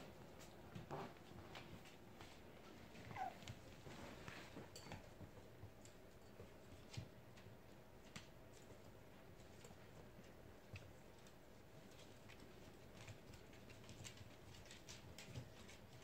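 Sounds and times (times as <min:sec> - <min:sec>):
puppy claws clicking on floor: 0:00.2 - 0:16.0.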